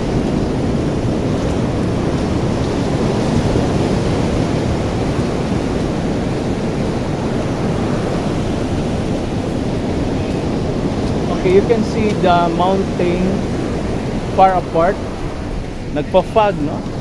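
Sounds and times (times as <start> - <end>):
waves breaking on beach: 0.0 - 17.0
wind buffeting microphone: 0.0 - 17.0.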